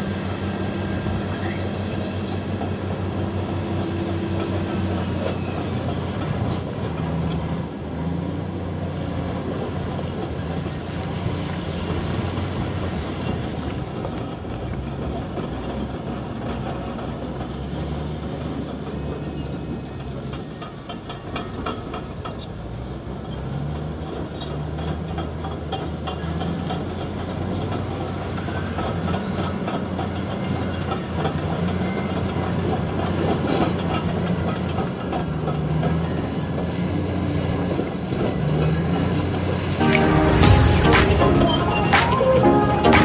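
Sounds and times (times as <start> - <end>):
bulldozer diesel engine working: 0.0 - 43.0.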